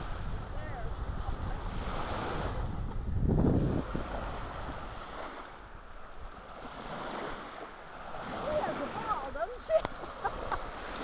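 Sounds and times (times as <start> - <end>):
surf on a beach: 0.0 - 11.0
wind buffeting microphone: 0.0 - 11.0.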